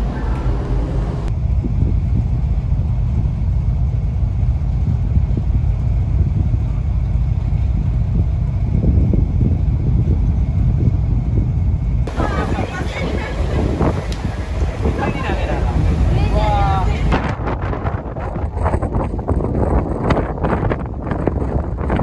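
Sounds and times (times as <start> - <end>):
ship engines rumbling: 0.0 - 22.0
wind buffeting microphone: 0.0 - 22.0.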